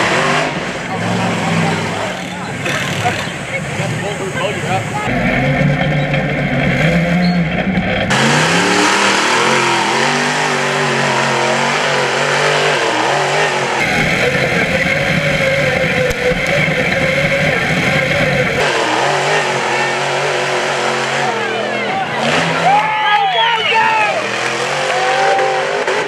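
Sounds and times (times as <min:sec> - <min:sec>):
buggy engine revving hard: 0:00.0 - 0:26.0.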